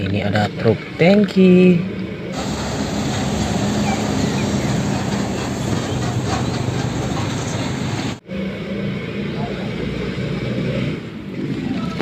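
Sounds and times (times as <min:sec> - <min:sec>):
truck engine noise: 0:01.8 - 0:12.0.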